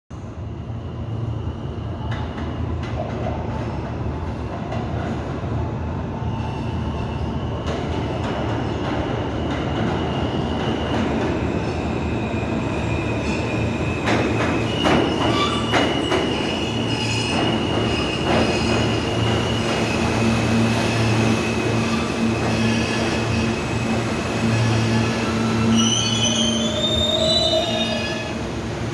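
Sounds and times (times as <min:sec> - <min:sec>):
high steady train whines: 0:00.1 - 0:28.9
subway train low rumble: 0:00.1 - 0:28.9.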